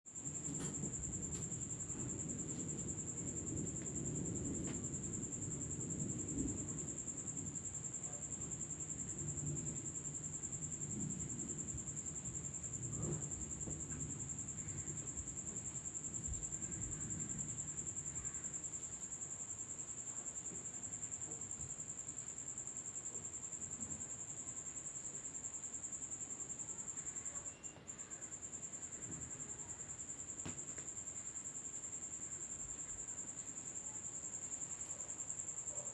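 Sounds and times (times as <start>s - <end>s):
crickets chirping: 0.1s - 35.9s.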